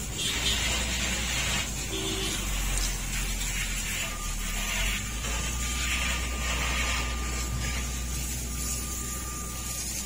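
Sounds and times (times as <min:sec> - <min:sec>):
car engine drone: 0:00.0 - 0:10.0
faint thin whine: 0:01.8 - 0:10.0.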